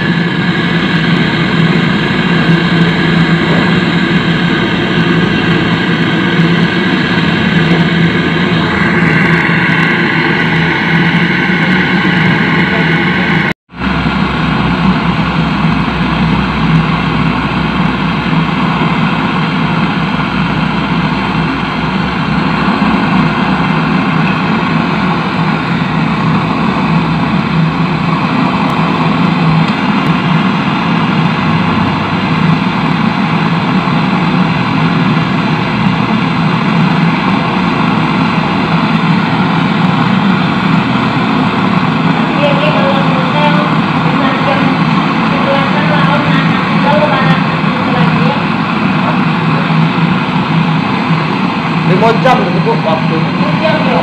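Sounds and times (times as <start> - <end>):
gas torch rushing: 0.0 - 54.0.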